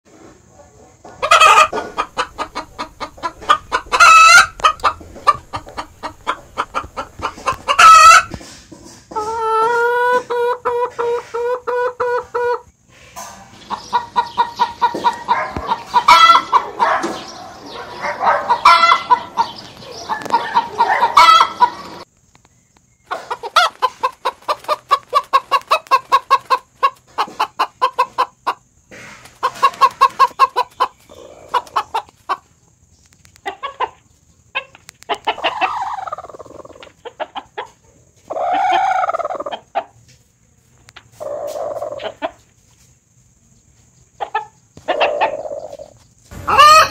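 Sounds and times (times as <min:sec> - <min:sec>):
hen clucking: 0:01.0 - 0:22.1, 0:23.1 - 0:32.6, 0:33.3 - 0:40.0, 0:40.9 - 0:42.6, 0:44.2 - 0:46.9.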